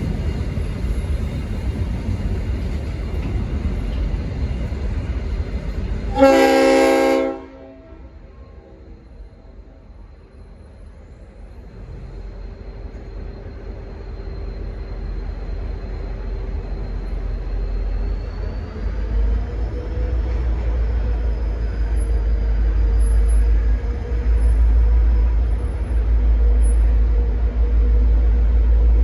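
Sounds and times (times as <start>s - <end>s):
diesel locomotive rumbling: 0.0s - 29.0s.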